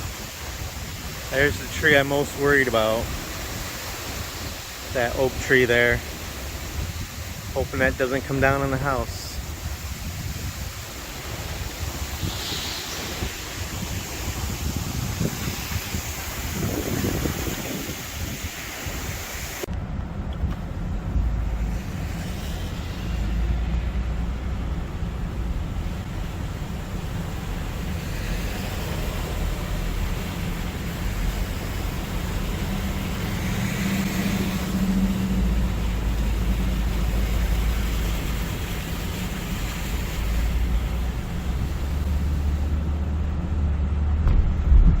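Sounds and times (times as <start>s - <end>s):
gusting wind rushing: 0.0s - 43.1s
wind buffeting microphone: 5.8s - 7.7s, 8.4s - 43.1s, 44.2s - 45.0s.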